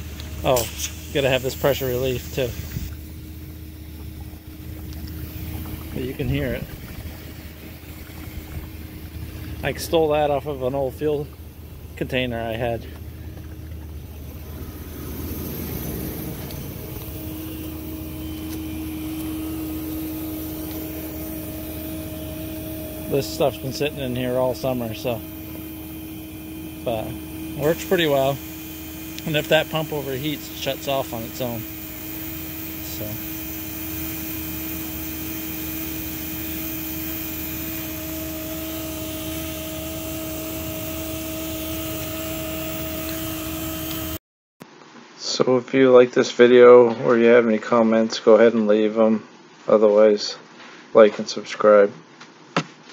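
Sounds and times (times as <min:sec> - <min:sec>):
macerator pump motor humming: 0:00.0 - 0:44.2
pump whine: 0:00.0 - 0:44.2.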